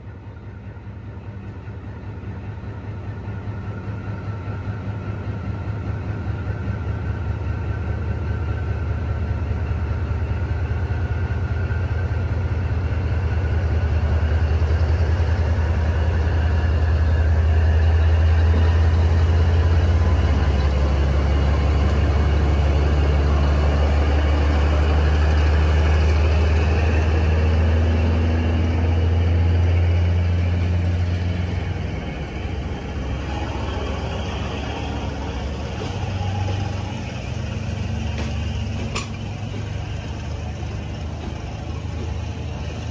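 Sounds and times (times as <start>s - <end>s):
diesel locomotive engine rumbling: 0.0s - 42.9s
train wagons rolling past: 0.0s - 42.9s.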